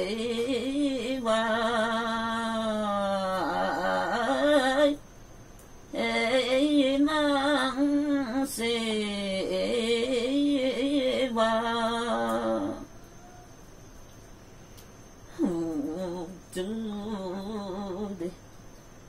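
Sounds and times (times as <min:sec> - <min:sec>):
woman singing unaccompanied: 0:00.0 - 0:05.2, 0:05.8 - 0:13.6, 0:15.2 - 0:18.6.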